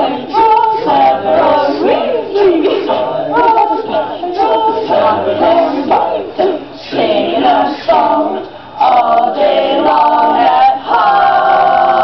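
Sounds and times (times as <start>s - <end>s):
voices singing a cappella: 0.0s - 12.0s.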